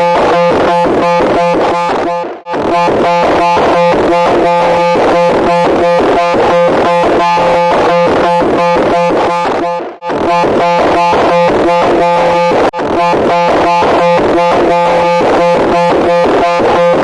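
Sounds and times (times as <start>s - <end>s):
harsh pulsing buzzing tone: 0.0s - 17.0s.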